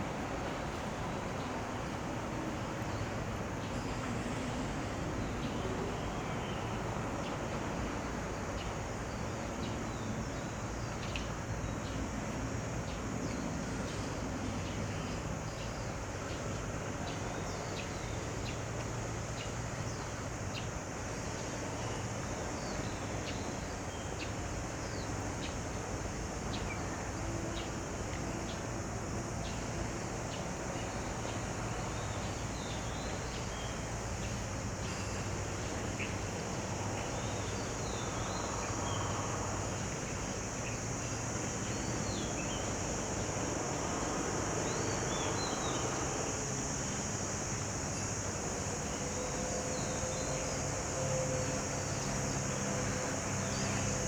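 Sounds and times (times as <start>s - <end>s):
distant traffic hum: 0.0s - 54.0s.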